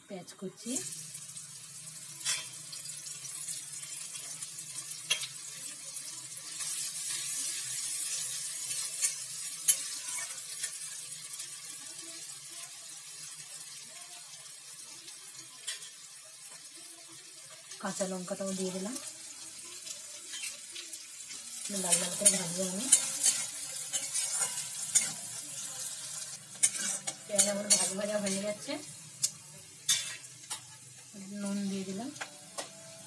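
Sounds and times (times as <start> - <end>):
onion sizzling in hot oil: 0.0 - 33.0.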